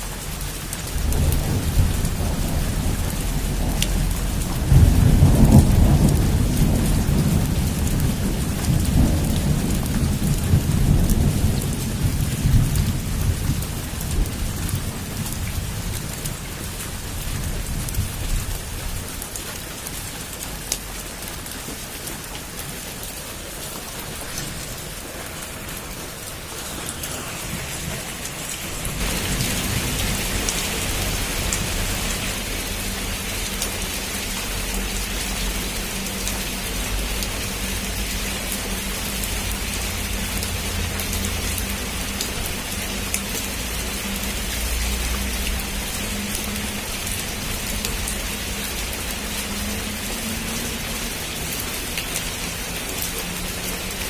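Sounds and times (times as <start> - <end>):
heavy rain on a roof: 0.0 - 54.0
low rumble of thunder: 0.3 - 21.3, 22.2 - 50.8.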